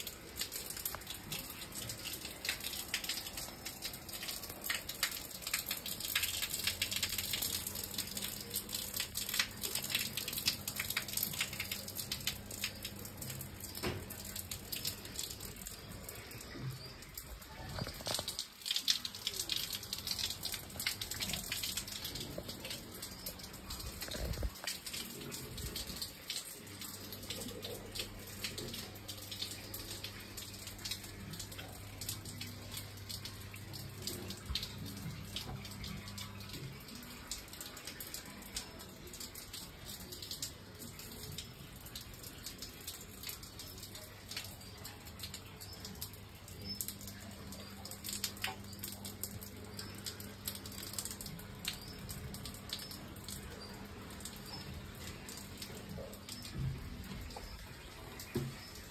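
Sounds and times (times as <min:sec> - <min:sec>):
water running and dripping: 0:00.0 - 0:58.9.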